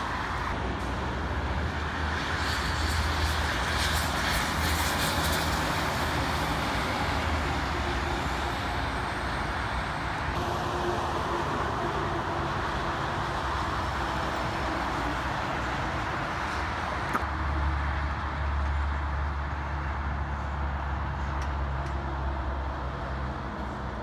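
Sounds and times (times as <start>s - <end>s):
diesel truck engines passing: 0.0s - 24.0s.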